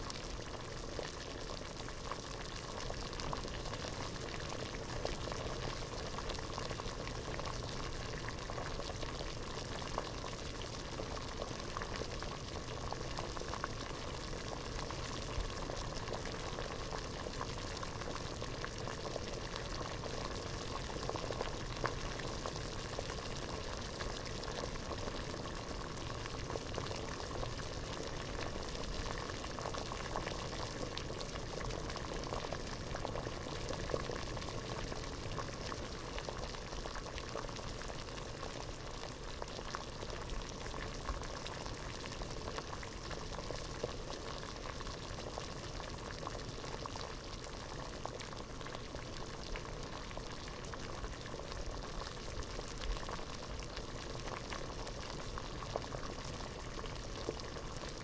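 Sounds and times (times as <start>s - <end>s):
water boiling in a pot: 0.0s - 58.0s.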